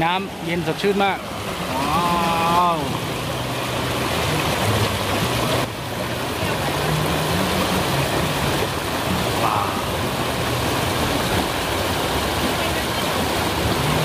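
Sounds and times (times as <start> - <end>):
waterfall rushing and splashing: 0.0 - 14.0.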